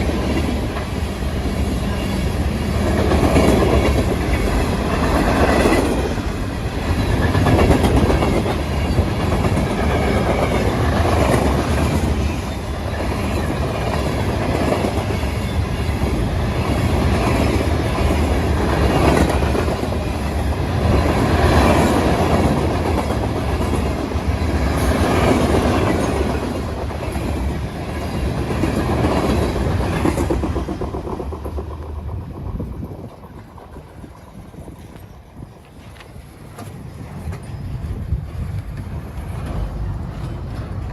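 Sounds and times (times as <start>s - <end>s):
clickety-clack of train wheels: 0.0s - 40.9s
freight train cars rumbling past: 0.0s - 40.9s.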